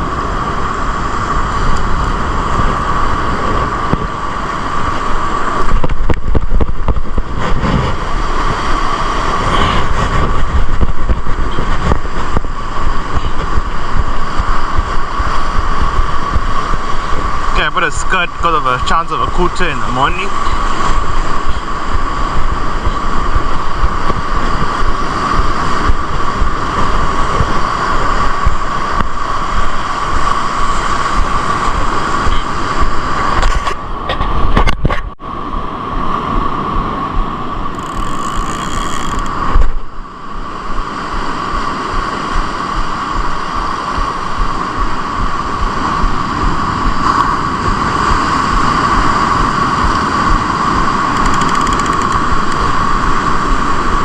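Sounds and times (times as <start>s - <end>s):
surf on beach: 0.0s - 54.0s
wind buffeting microphone: 0.0s - 54.0s.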